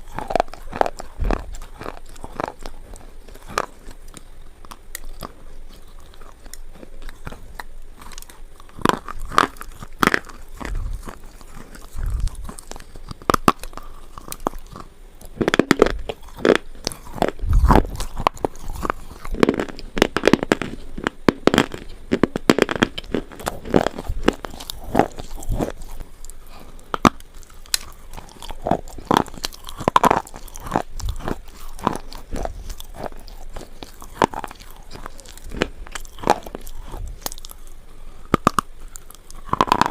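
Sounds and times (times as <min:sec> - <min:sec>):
pencils crunching when chewed: 0:00.0 - 0:39.9.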